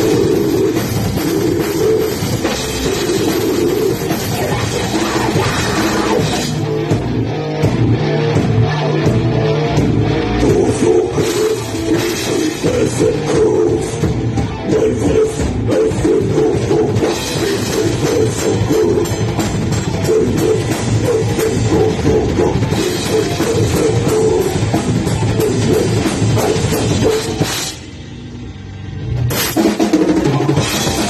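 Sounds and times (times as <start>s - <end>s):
heavy metal band playing: 0.0s - 31.0s.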